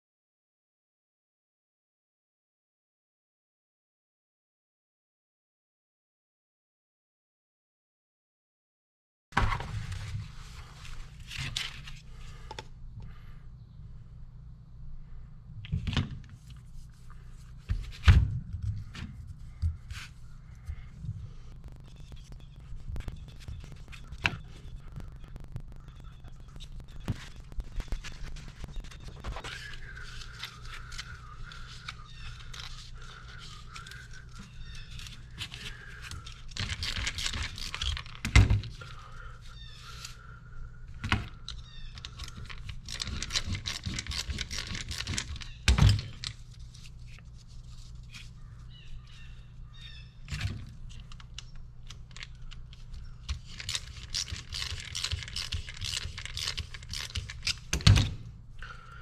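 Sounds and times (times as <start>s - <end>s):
steady low hum: 9.4s - 59.0s.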